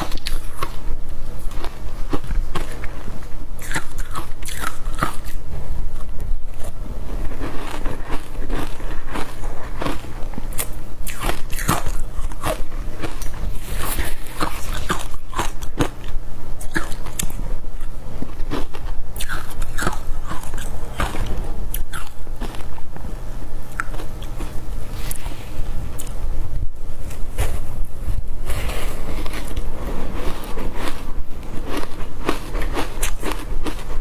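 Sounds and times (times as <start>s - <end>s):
ice being chewed: 0.0s - 0.8s, 1.4s - 5.4s, 6.0s - 22.8s, 23.7s - 25.2s, 28.5s - 34.0s.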